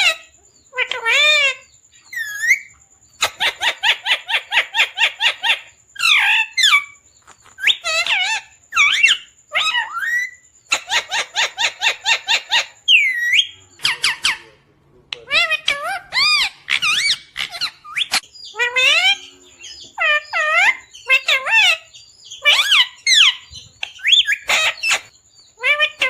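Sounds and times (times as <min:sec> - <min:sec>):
parrot chirping and squawking: 0:00.0 - 0:26.0.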